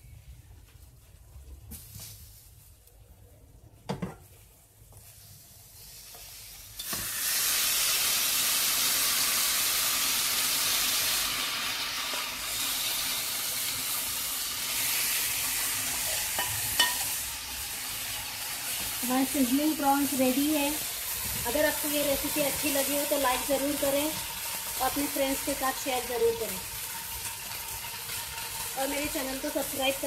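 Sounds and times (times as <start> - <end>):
food sizzling on hot plate: 5.0 - 30.0.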